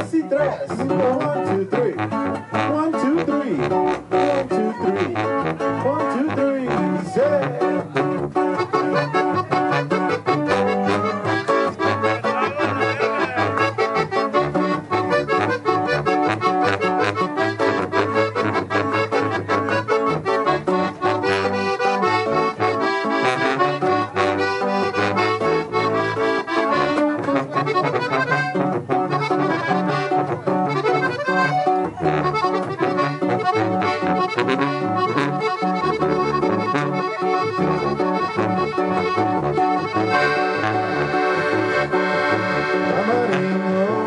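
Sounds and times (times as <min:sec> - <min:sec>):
accordion: 0:00.0 - 0:44.0
tuba bass line: 0:00.0 - 0:44.0.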